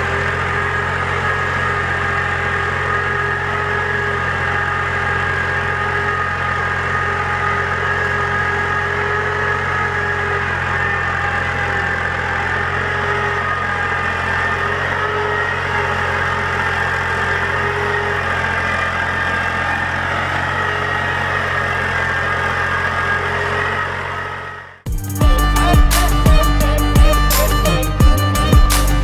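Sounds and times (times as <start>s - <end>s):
tractor diesel engine droning: 0.0s - 29.0s.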